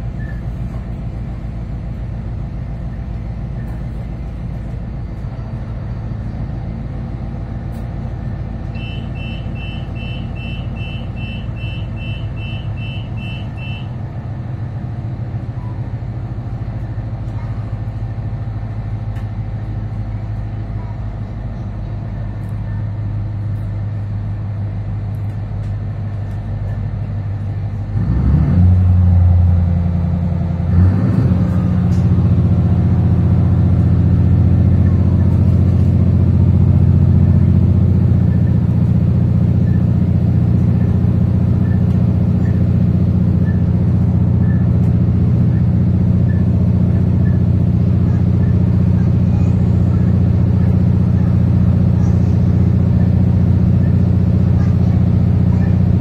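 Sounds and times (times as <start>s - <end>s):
railcar diesel engine: 0.0s - 56.0s.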